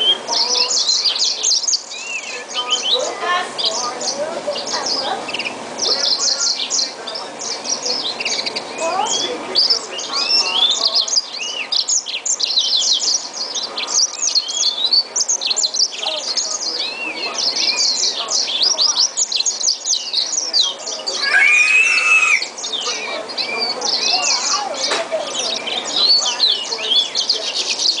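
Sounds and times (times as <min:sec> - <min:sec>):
canary singing: 0:00.0 - 0:28.0.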